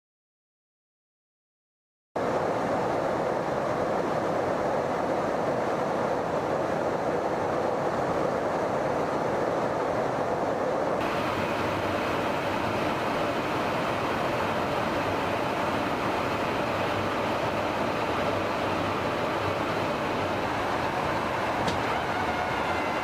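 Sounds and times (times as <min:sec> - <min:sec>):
aircraft engine drone: 0:02.2 - 0:23.0
rushing air: 0:02.2 - 0:23.0.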